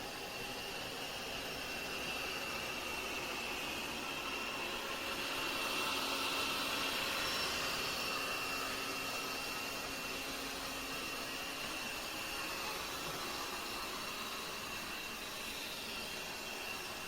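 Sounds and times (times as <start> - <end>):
robot vacuum hiss and whine: 0.3 - 17.0.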